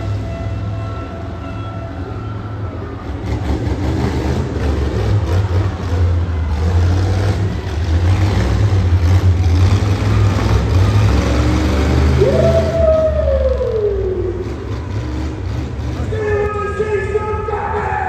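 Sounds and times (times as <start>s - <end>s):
monster truck engines rumbling: 0.0s - 18.0s.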